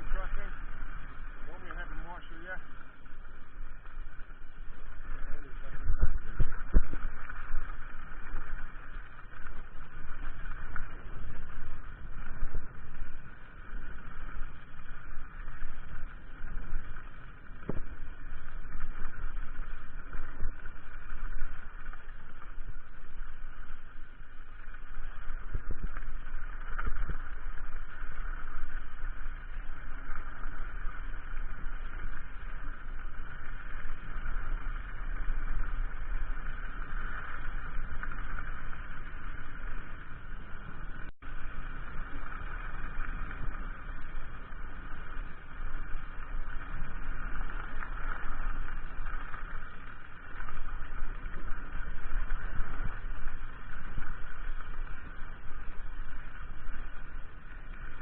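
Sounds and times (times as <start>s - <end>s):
mountain bike rumble: 0.0s - 58.0s.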